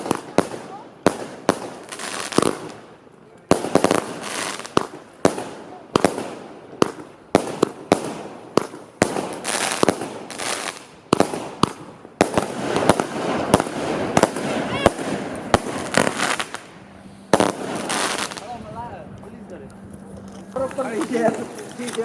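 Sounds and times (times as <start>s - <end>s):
fireworks bangs: 0.0s - 18.8s
fireworks crackling: 0.0s - 22.0s.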